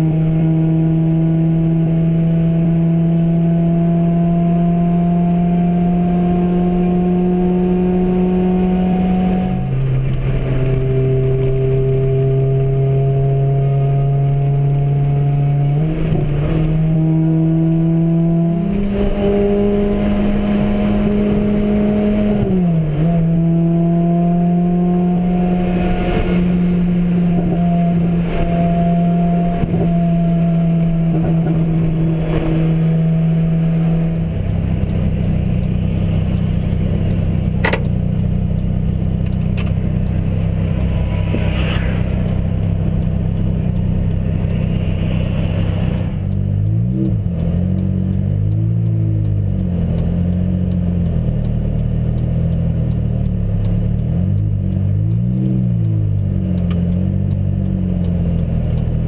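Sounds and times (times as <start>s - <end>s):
car engine drone from inside cabin: 0.0s - 59.0s
road noise: 0.0s - 59.0s.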